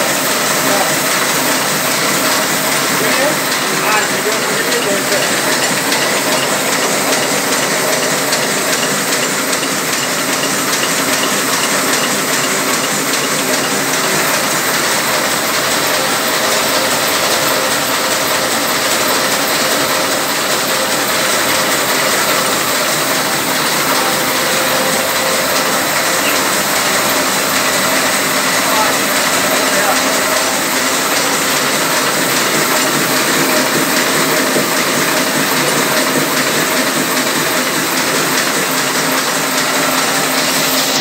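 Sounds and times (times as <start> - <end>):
printing press clattering: 0.0 - 41.0.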